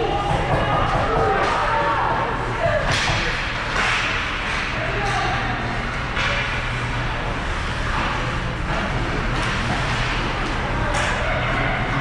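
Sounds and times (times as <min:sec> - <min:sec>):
voices echoing in arena: 0:00.0 - 0:12.0.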